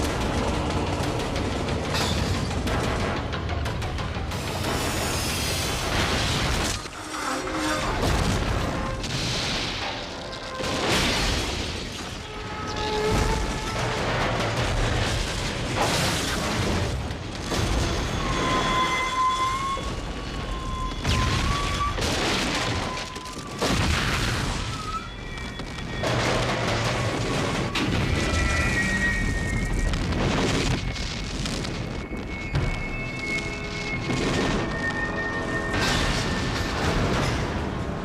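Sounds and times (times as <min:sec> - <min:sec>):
dramatic music: 0:00.0 - 0:38.0.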